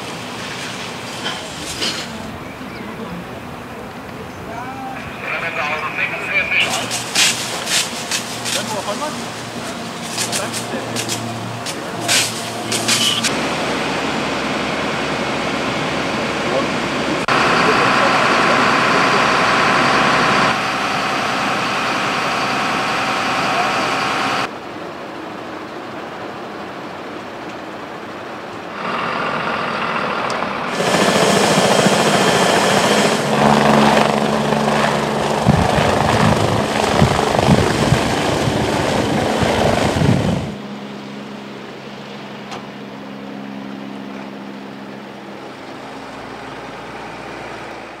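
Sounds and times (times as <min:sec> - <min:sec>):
helicopter turbines and rotor: 0:00.0 - 0:25.4, 0:26.1 - 0:48.0.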